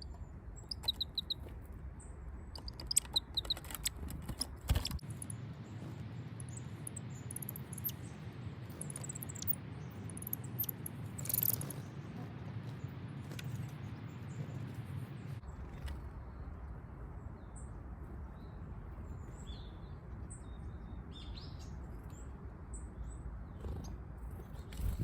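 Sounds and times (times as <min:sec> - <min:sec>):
outdoor background hum: 0:00.0 - 0:25.0
songbirds chirping: 0:00.0 - 0:25.0.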